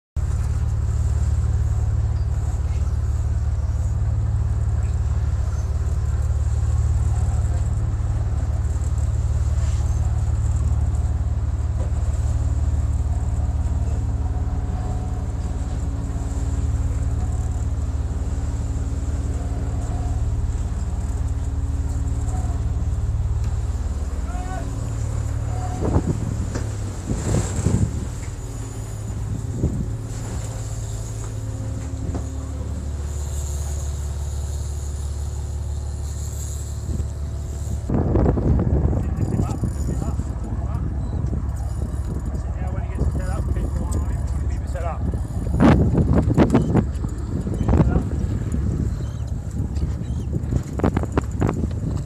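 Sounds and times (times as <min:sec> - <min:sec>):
boat engine drone: 0:00.2 - 0:52.0.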